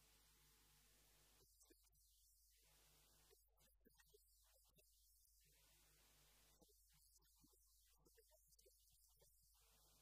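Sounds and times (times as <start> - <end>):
faint low hum and hiss: 0.0 - 10.0.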